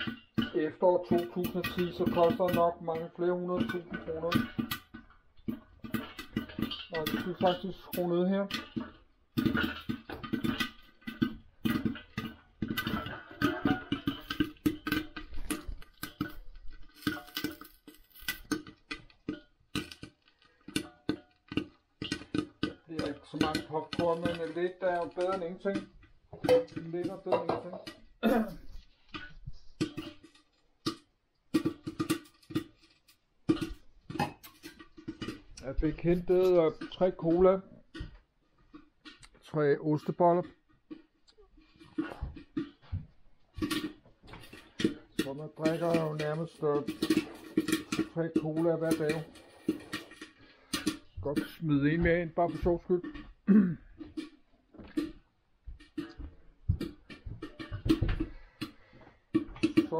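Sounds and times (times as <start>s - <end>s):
popcorn kernels popping: 0.0s - 59.9s.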